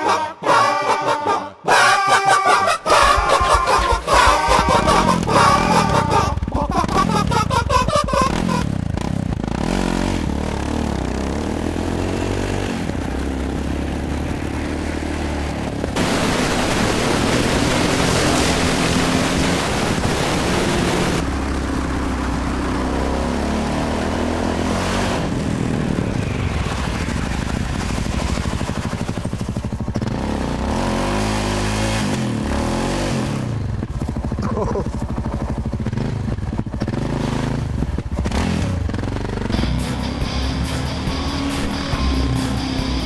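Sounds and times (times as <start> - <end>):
motorcycle engine revving: 2.8 - 43.0.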